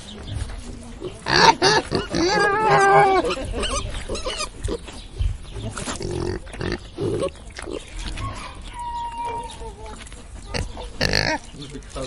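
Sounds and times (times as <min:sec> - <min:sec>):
farm animal calls: 0:00.0 - 0:12.0.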